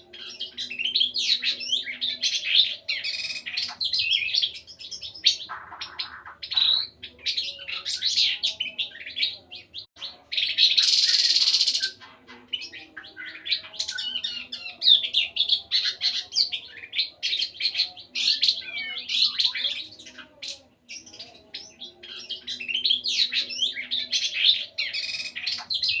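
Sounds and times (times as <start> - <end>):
bird song of chirps and trills: 0.0 - 26.0.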